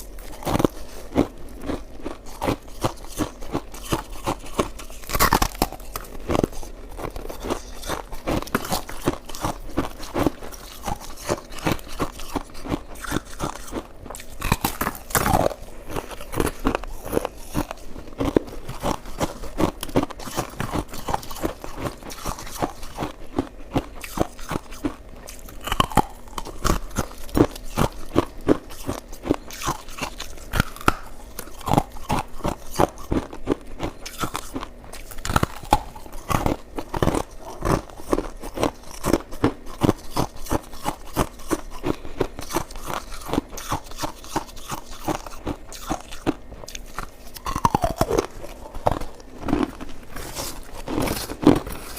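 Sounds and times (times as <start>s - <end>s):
crunching and chewing ice: 0.0s - 51.9s.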